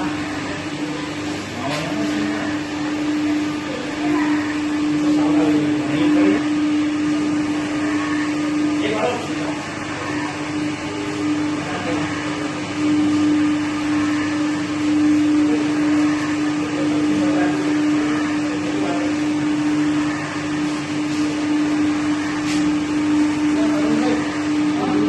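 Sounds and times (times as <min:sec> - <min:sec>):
machinery motor hum: 0:00.0 - 0:25.0.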